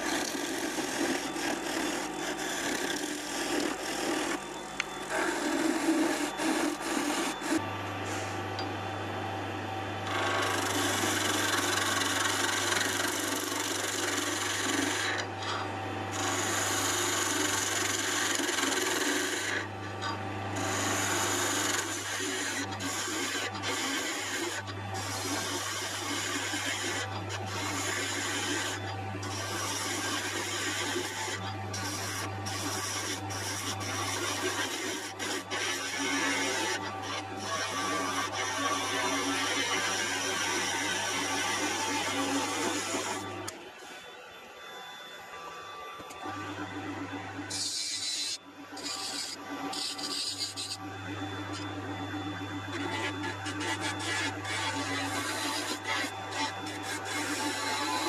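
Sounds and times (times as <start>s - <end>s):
chisel hissing on spinning wood: 0.0s - 8.4s, 10.1s - 15.3s, 16.1s - 19.7s, 20.6s - 43.2s, 47.5s - 50.8s, 52.8s - 58.0s
lathe motor low hum: 0.0s - 58.0s.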